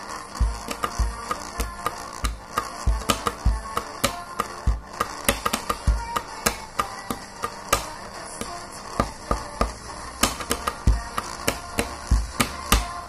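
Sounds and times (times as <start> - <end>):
pens tapping on wooden table: 0.4 - 13.0.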